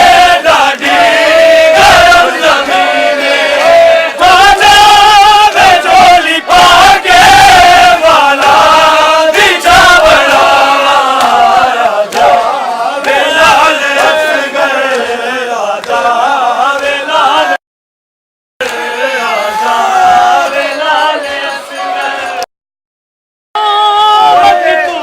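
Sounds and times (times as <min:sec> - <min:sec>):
men chanting in unison: 0:00.0 - 0:17.6, 0:18.6 - 0:22.5, 0:23.6 - 0:25.0.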